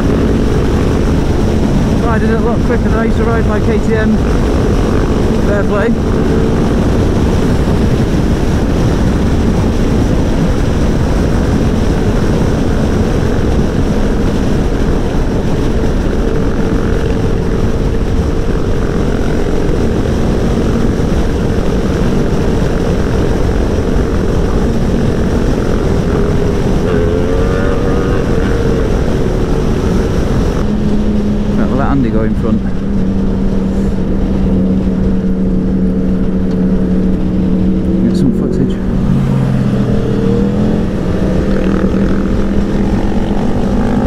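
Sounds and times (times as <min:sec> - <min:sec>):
motorcycle engine: 0:00.0 - 0:44.0
wind rush over microphone: 0:00.0 - 0:44.0.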